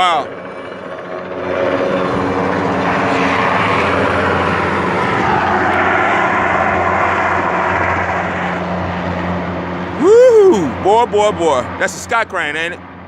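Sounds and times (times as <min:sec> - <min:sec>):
helicopter rotor and turbine noise: 0:00.0 - 0:13.0.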